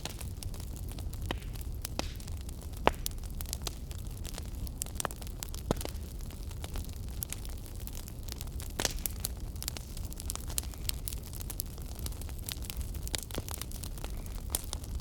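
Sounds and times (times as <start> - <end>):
fire crackling and popping: 0.0 - 15.0
low fire rumble: 0.0 - 15.0.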